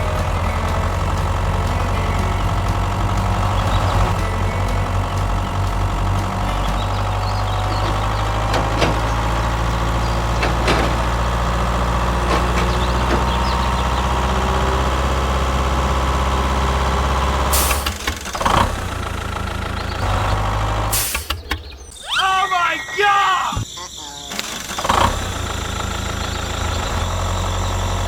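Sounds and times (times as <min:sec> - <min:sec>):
engine idling: 0:00.0 - 0:22.0, 0:23.7 - 0:28.0.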